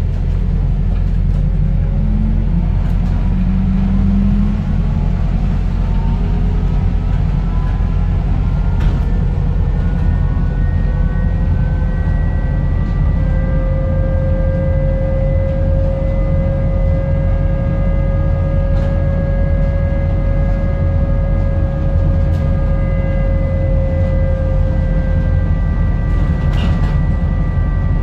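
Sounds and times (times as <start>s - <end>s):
bus drivetrain and road rumble: 0.0s - 28.0s.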